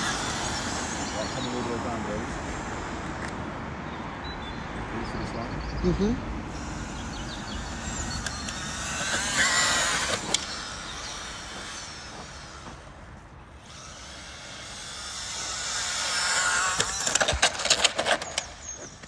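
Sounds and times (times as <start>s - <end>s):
electric toy car motor whining: 0.0s - 4.1s, 6.4s - 19.0s.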